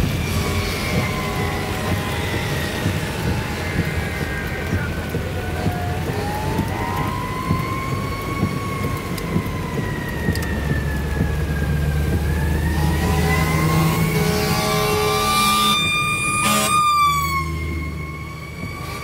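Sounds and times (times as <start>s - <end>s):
car driving on wet road: 0.0s - 19.0s
heavy rain: 0.0s - 19.0s
siren wailing: 0.0s - 19.0s.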